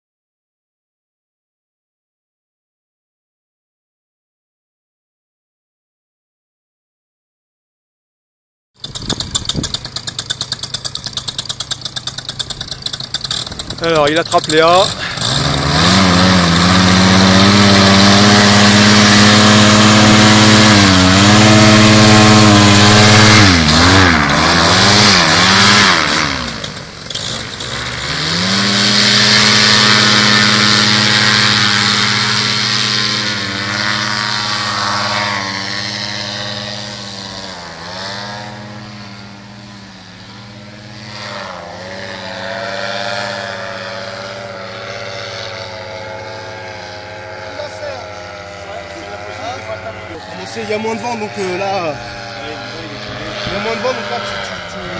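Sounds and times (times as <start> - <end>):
two-stroke engine with propeller: 8.8 - 54.9.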